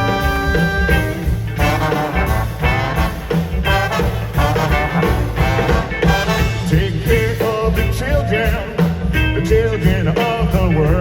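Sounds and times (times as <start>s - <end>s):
brass band playing funk jazz: 0.0s - 11.0s.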